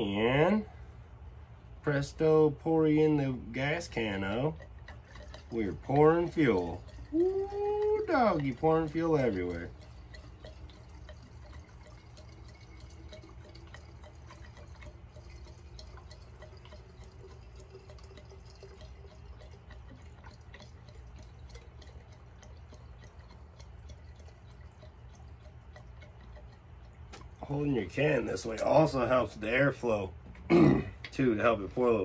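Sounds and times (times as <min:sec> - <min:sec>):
fuel trickling into tank: 0:00.0 - 0:30.2
small drips and ticks: 0:02.1 - 0:30.2.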